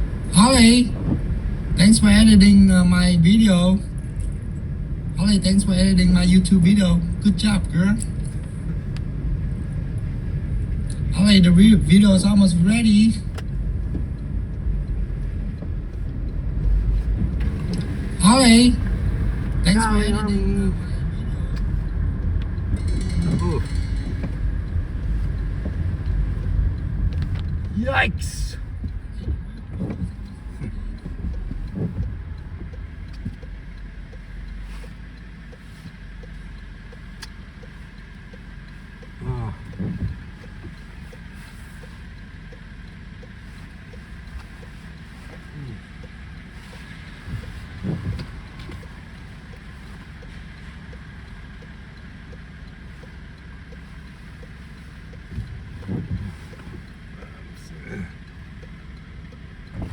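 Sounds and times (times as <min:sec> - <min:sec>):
faint regular ticking: 0:00.0 - 0:59.9
road and engine rumble: 0:00.0 - 0:59.9.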